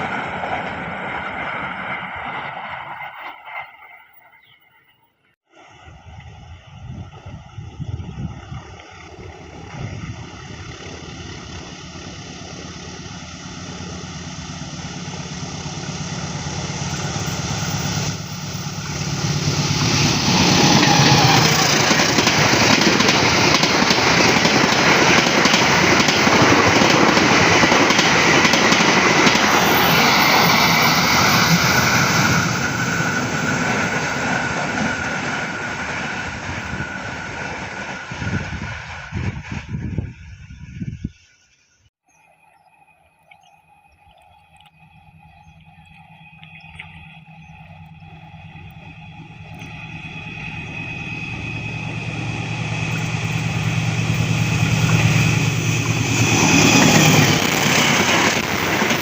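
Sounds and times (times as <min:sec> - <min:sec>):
train passing: 0:00.0 - 0:41.0, 0:44.9 - 0:59.0.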